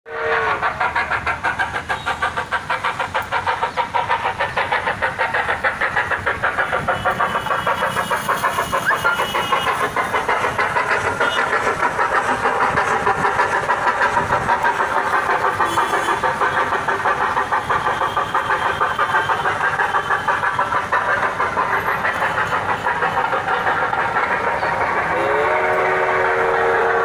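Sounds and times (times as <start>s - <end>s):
locomotive running rhythmic beat: 0.1s - 27.0s.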